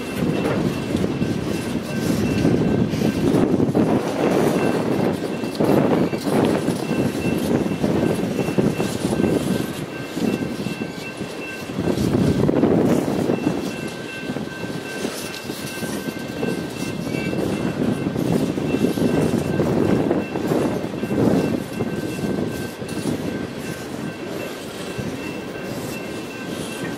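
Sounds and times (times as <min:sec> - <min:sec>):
crossing bell ringing: 0:00.0 - 0:26.9
train wheels clattering on rail: 0:00.0 - 0:26.9.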